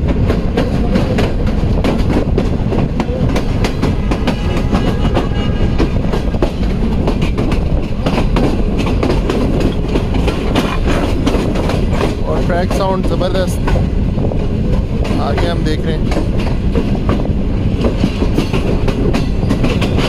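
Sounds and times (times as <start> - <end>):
train coach rumble: 0.0 - 20.0
wheels clattering over rail joints: 0.0 - 20.0.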